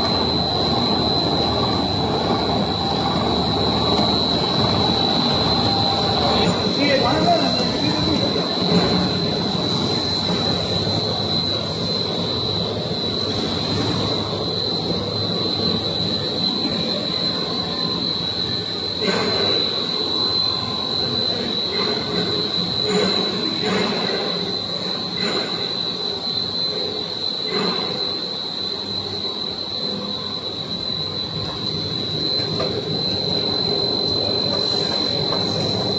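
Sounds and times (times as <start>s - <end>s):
high-pitched machine whine: 0.0s - 35.9s
mechanical hum of conveyors: 0.0s - 35.9s.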